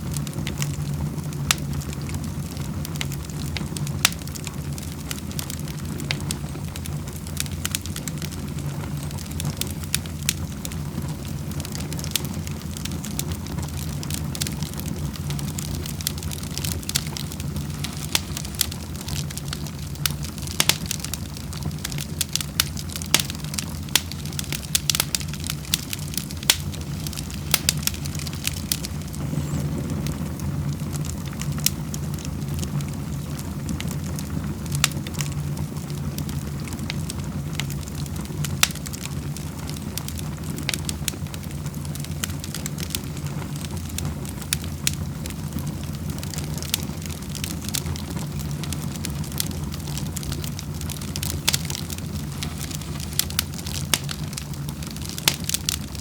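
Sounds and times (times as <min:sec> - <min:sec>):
low fire rumble: 0:00.0 - 0:56.0
wood fire pops and snaps: 0:00.0 - 0:56.0.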